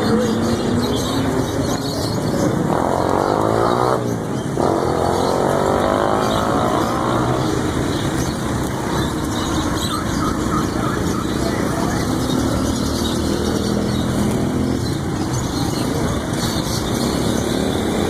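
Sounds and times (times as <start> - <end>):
traffic rumble: 0.0 - 18.0
vehicle engine revving: 0.0 - 18.0.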